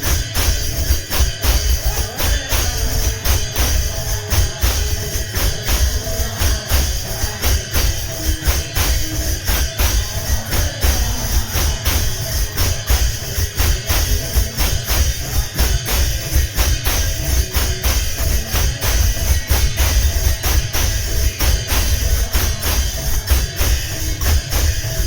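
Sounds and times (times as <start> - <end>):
jingling metal percussion: 0.0 - 25.0
low drum beats: 0.0 - 25.0.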